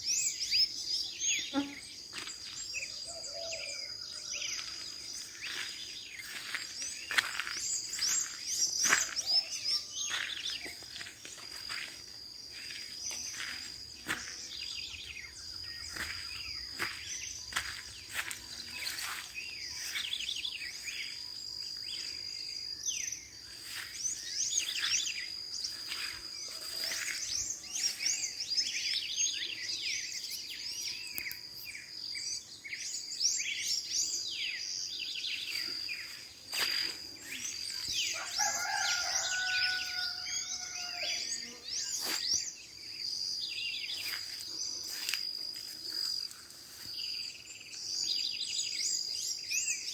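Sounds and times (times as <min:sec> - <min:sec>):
birds chirping and trilling: 0:00.0 - 0:49.9
high-pitched insect trill: 0:00.0 - 0:49.9.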